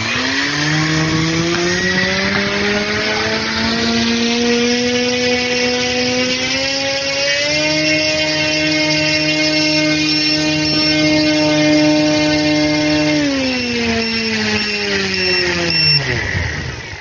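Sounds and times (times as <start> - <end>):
electric motor whine: 0.0 - 17.0
propeller noise: 0.0 - 17.0.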